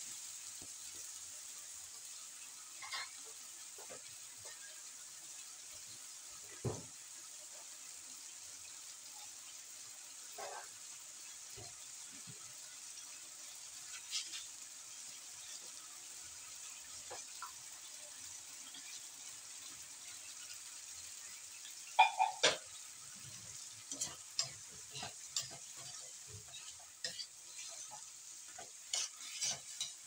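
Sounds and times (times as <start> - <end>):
food sizzling in wok: 0.0 - 30.0.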